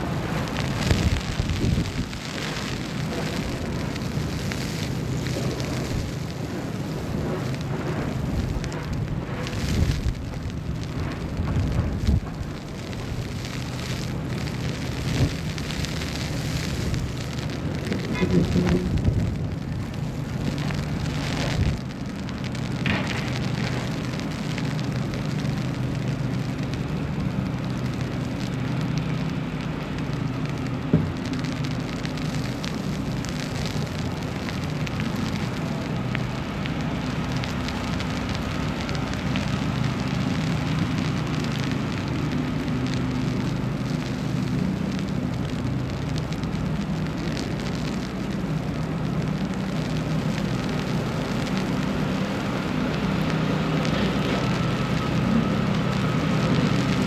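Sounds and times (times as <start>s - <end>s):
crackling snow patter: 0.0s - 57.0s
traffic and machinery hum: 0.0s - 57.0s.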